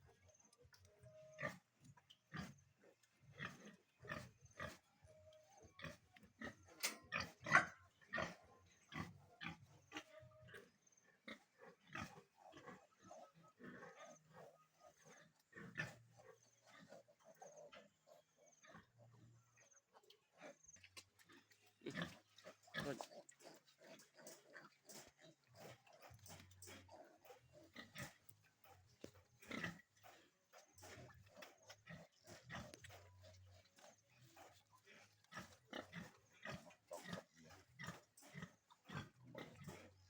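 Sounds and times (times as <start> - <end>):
pigs grunting: 0.0 - 40.0.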